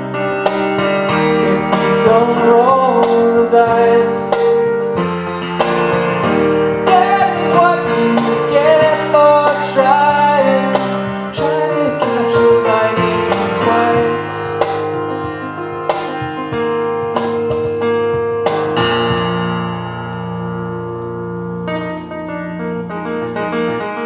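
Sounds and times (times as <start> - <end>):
guitar melody: 0.0 - 24.0.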